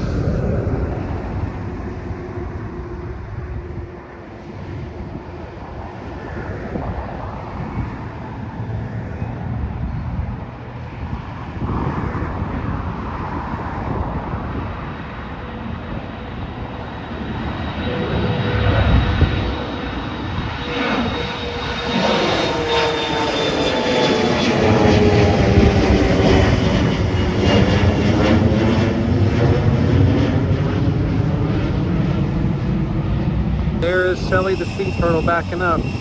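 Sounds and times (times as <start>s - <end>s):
jet airliner engines passing: 0.0s - 36.0s.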